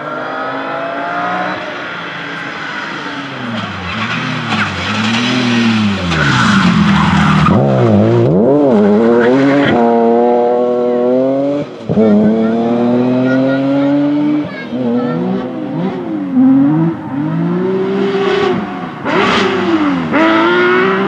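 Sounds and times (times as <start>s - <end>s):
rally car engine revving: 0.0s - 21.0s
tyres skidding: 0.0s - 21.0s.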